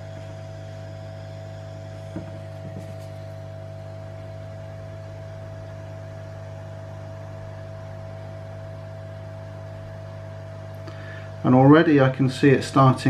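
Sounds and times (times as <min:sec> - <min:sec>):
blower hum: 0:00.0 - 0:13.0.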